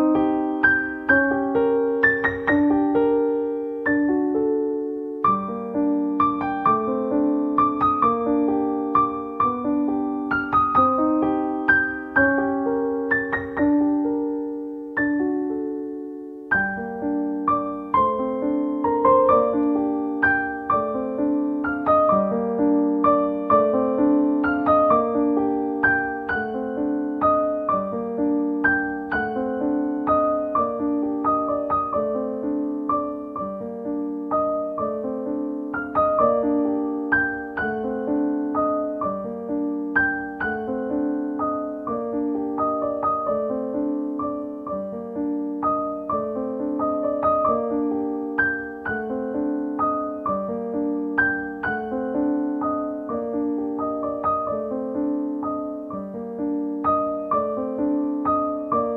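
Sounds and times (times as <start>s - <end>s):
background piano music: 0.0s - 58.9s.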